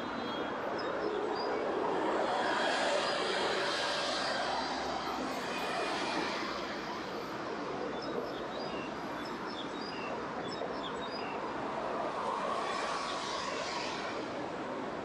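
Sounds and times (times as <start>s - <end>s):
road traffic roar: 0.0s - 15.0s.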